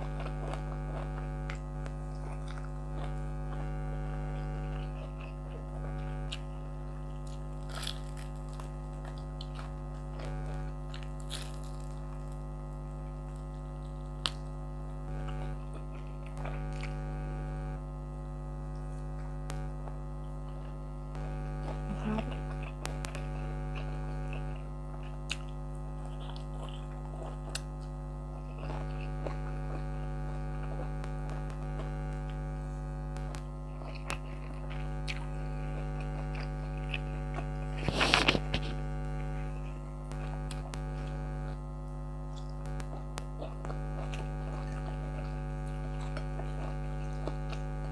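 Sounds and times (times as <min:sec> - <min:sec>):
crunch: 0:00.0 - 0:17.3, 0:18.7 - 0:47.9
air conditioner humming: 0:00.0 - 0:47.9.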